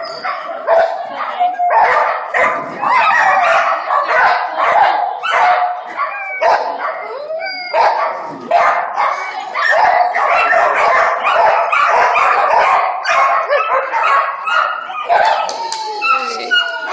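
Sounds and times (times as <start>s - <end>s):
dog barking: 0.1s - 7.0s, 7.7s - 15.5s.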